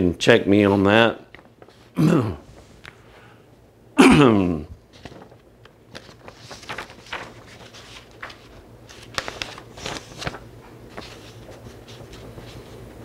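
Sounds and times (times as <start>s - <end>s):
faint low hum: 0.0s - 13.0s
paper rustling and crinkling: 0.7s - 3.0s, 4.8s - 13.0s.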